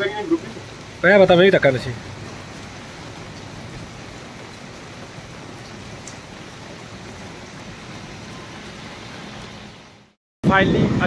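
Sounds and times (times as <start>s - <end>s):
heavy rain hissing: 0.0s - 10.2s.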